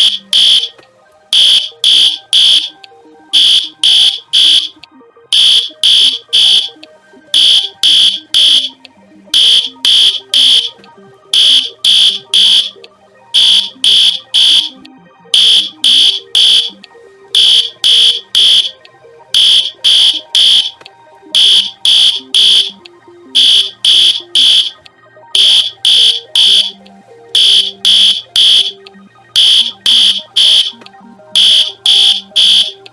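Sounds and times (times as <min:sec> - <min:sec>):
faint low musical drone: 0:00.0 - 0:32.9
shrill electronic alarm beeps: 0:00.0 - 0:32.9.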